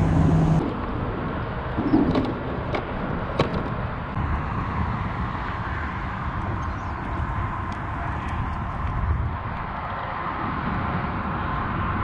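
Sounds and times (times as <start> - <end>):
steady wind noise: 0.0 - 12.0.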